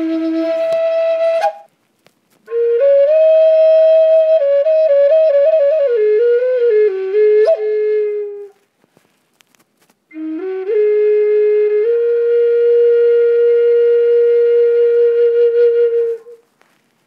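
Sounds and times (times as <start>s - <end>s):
solo flute melody: 0.0s - 1.8s, 2.4s - 8.6s, 10.1s - 16.5s.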